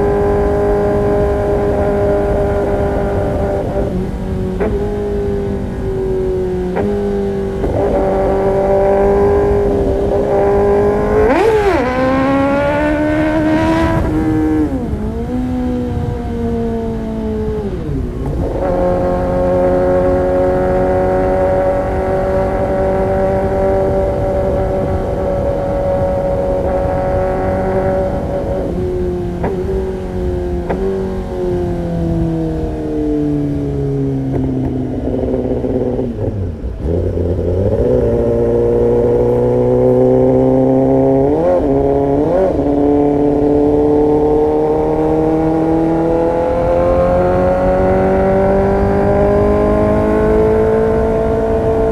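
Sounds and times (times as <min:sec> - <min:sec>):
sport motorcycle engine revving: 0:00.0 - 0:51.9.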